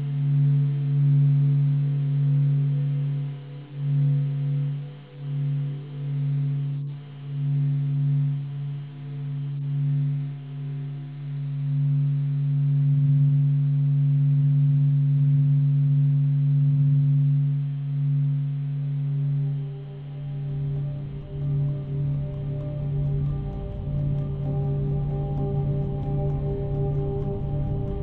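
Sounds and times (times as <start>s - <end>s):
low ambient drone music: 0.0s - 28.0s.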